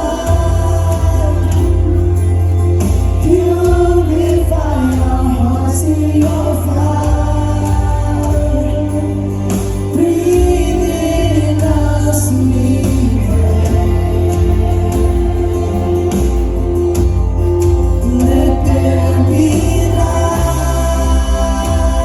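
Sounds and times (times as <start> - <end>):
bass: 0.0 - 22.0
drums: 0.0 - 22.0
singing: 0.0 - 22.0
worship band playing: 0.0 - 22.0.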